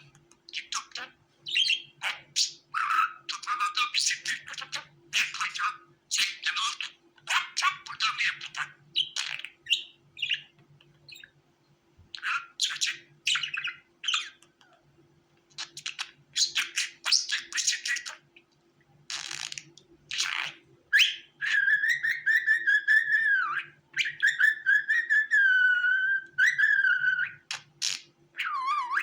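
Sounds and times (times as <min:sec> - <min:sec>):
budgerigars chirping: 0:00.5 - 0:10.5, 0:12.2 - 0:14.4, 0:15.6 - 0:18.2, 0:19.1 - 0:29.0.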